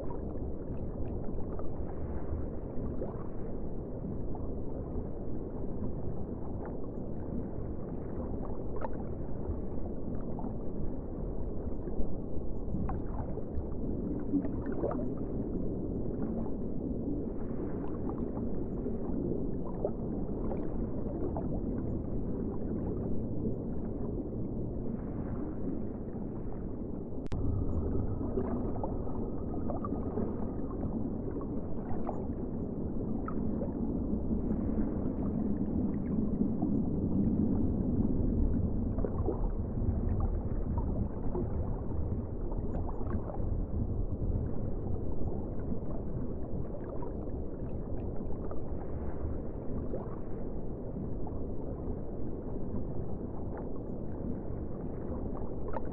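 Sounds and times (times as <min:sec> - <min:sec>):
water gurgling: 0:00.0 - 0:55.9.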